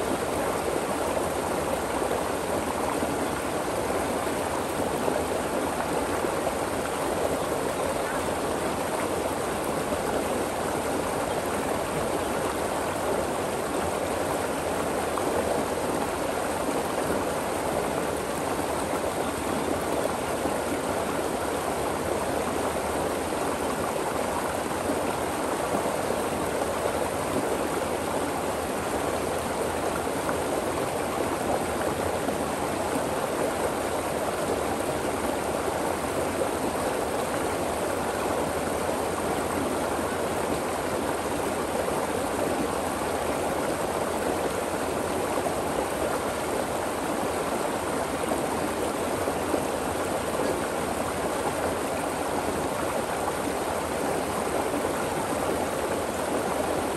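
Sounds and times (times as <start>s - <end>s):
stream flowing over rocks: 0.0s - 56.9s.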